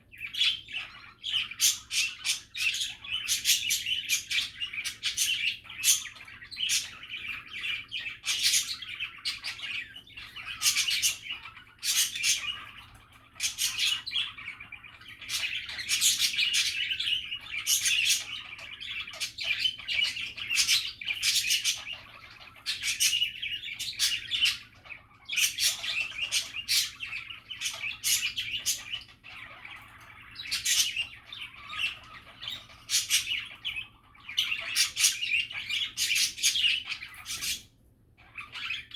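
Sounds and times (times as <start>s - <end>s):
budgerigars warbling: 0.0s - 38.9s.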